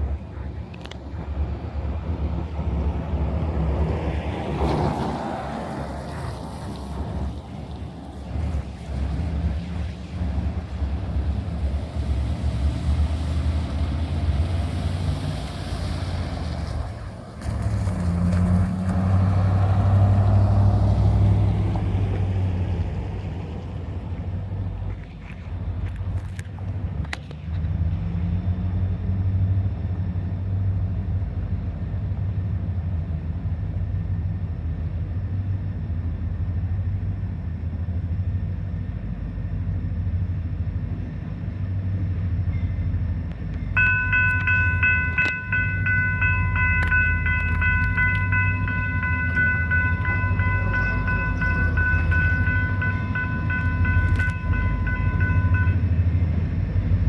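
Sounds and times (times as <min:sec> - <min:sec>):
locomotive engine rumble: 0:00.0 - 0:57.0.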